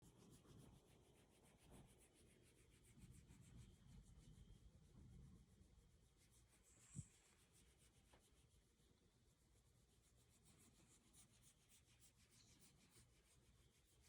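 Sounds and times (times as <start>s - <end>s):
hands rubbing dog fur: 0.0s - 14.0s.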